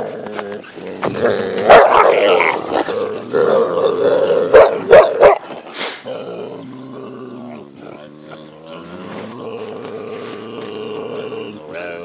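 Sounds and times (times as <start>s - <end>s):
puppies growling: 0.0s - 12.0s.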